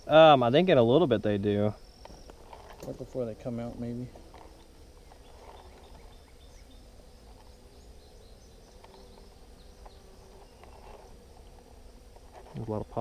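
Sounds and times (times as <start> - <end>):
honeybees humming: 0.0 - 13.0
small birds chirping: 0.0 - 13.0.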